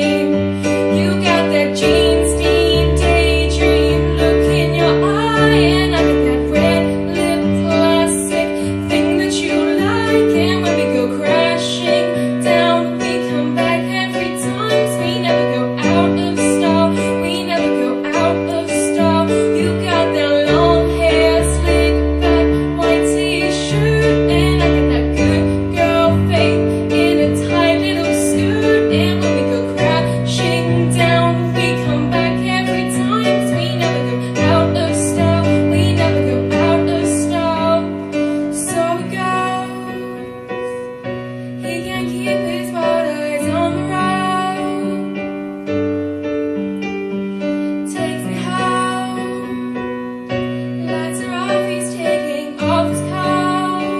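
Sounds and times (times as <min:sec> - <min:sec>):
woman singing into a microphone: 0:00.0 - 0:45.7, 0:47.4 - 0:53.9
piano accompaniment: 0:00.0 - 0:53.9.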